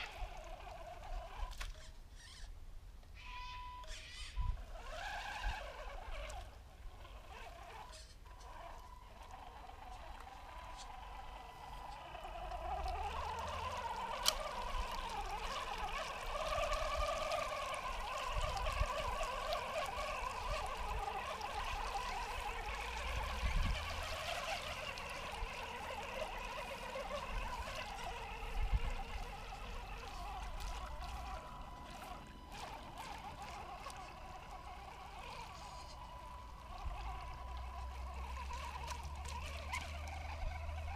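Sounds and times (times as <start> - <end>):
water splashing under tyres: 0.0 - 1.8, 4.7 - 40.9
electric motor whine: 0.0 - 2.4, 3.2 - 40.9.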